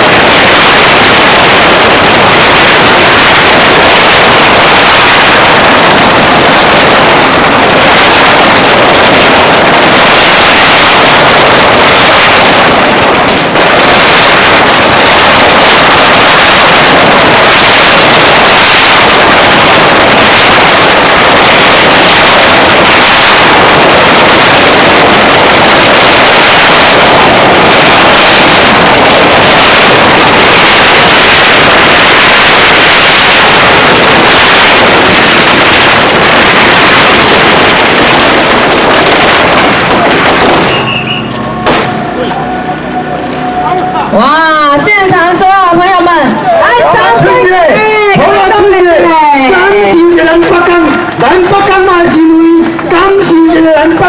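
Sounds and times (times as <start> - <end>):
firecrackers going off: 0.0 - 54.0.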